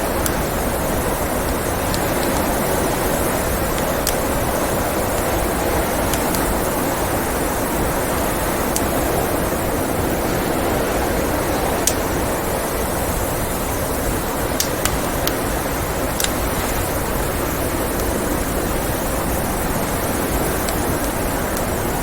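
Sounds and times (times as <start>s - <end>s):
wood fire crackling pops: 0.0s - 9.4s, 11.3s - 22.0s
blizzard wind: 0.0s - 22.0s.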